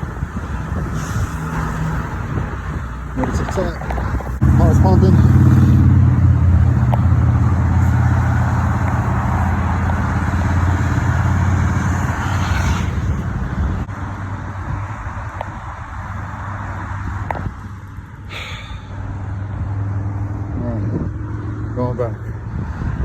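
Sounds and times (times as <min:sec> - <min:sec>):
bicycle tyres humming on bridge: 0:00.0 - 0:23.0.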